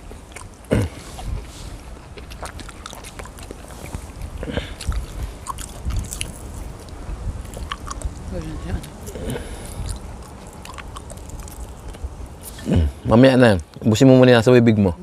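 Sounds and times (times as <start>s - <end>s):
people chewing crunchy fried food: 0.0s - 14.0s.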